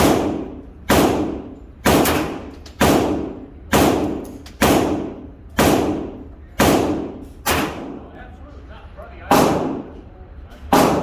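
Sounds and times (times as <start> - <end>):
echoing gunshots: 0.0 - 8.0, 9.3 - 9.9, 10.7 - 11.0.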